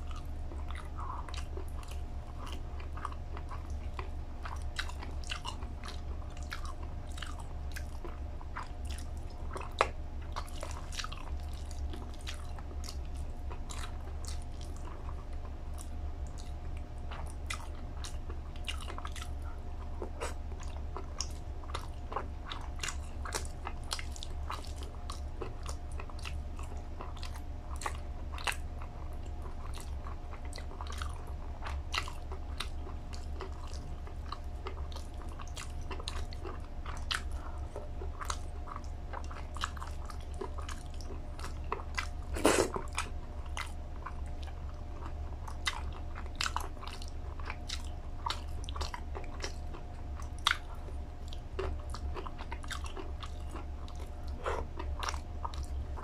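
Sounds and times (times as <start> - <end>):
chewing and lip-smacking: 0.0 - 56.0
steady low hum: 0.0 - 56.0.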